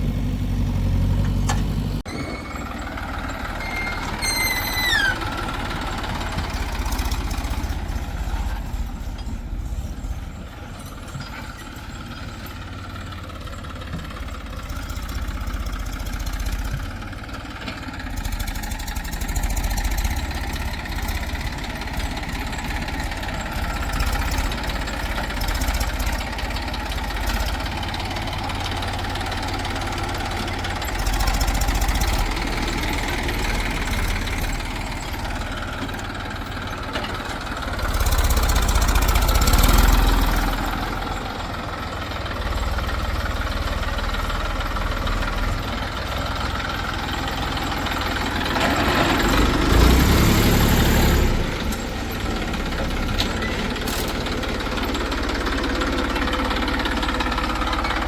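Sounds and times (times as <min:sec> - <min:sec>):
diesel machinery rumbling: 0:00.0 - 0:58.0.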